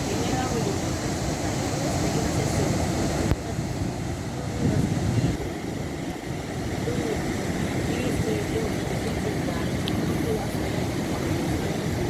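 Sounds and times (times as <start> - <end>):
faint distant voices: 0.0 - 12.0
sea waves: 0.0 - 12.0
wind: 0.0 - 12.0.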